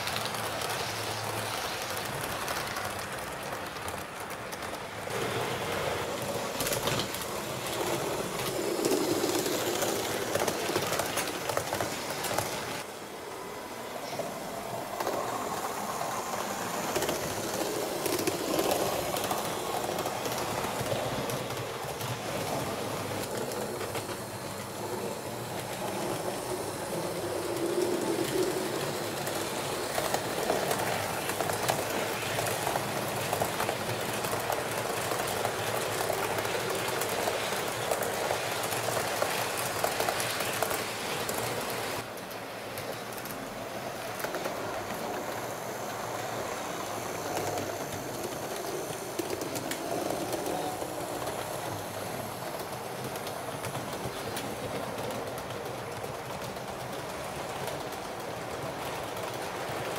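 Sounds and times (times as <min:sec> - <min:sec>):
model train wheels rattling: 0:00.0 - 0:13.0, 0:14.0 - 0:59.9.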